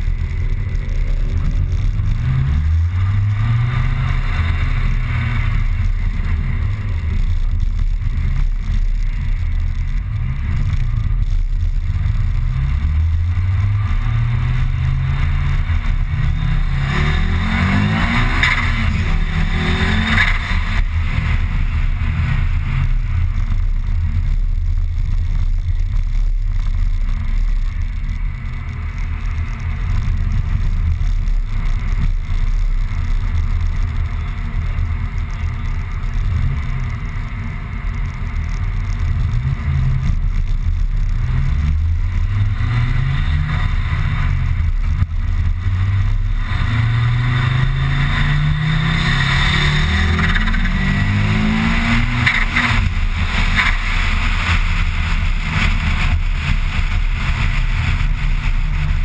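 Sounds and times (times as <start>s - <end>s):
car engine accelerating: 0.0s - 59.0s
road and tyre noise: 0.0s - 59.0s.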